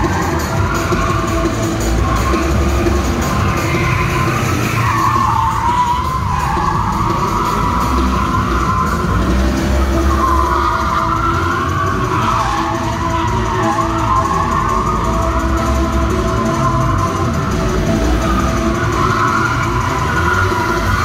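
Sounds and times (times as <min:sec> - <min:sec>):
car engine running hard: 0:00.0 - 0:21.0
show music: 0:00.0 - 0:21.0
tyres squealing: 0:00.0 - 0:21.0.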